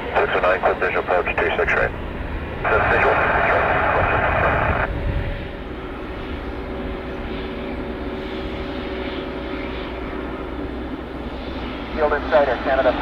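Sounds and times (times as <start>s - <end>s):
aircraft engines humming: 0.0s - 13.0s.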